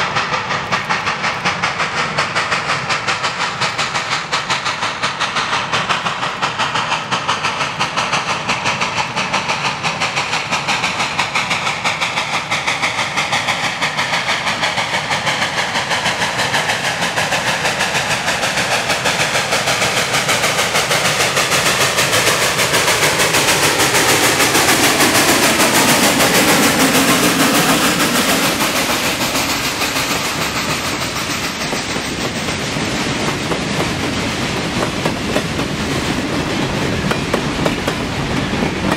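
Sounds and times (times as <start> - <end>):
freight cars clickety-clack: 0.0 - 38.9
steam locomotive chuffing: 0.0 - 38.9.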